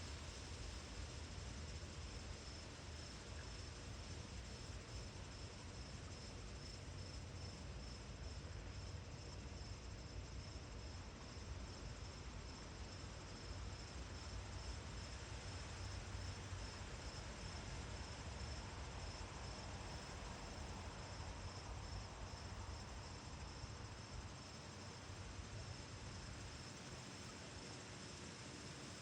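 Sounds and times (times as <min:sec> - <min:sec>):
insects trilling: 0:00.0 - 0:29.0
low rumble of wind: 0:00.0 - 0:29.0.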